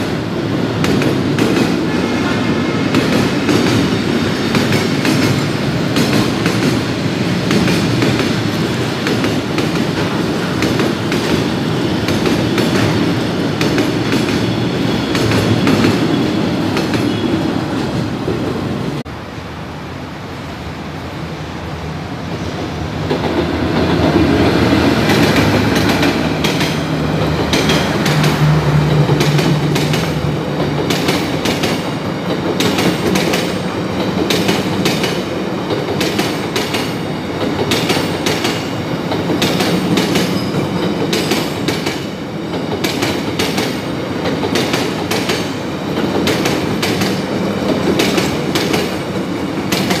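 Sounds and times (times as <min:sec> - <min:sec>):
train wheels clicking over rail joints: 0:00.0 - 0:02.0, 0:02.8 - 0:17.4, 0:23.0 - 0:50.0.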